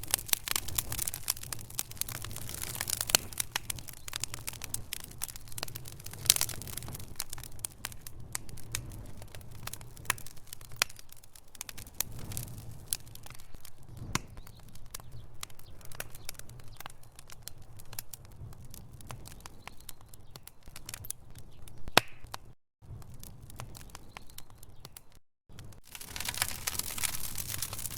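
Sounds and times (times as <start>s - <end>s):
low rumble of flames: 0.0s - 27.9s
wood fire crackling and popping: 0.0s - 27.9s.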